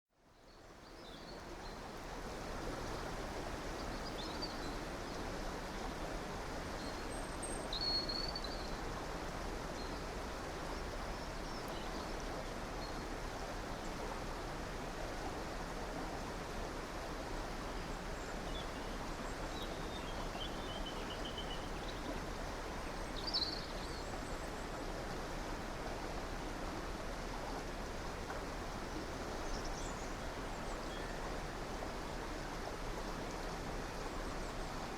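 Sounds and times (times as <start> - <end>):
river water flowing: 0.2 - 34.9.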